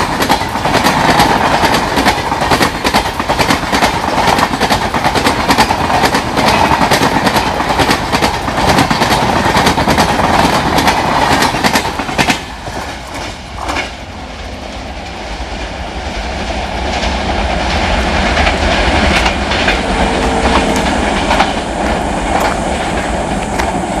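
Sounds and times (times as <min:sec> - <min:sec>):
train coaches rumbling past: 0:00.0 - 0:24.0.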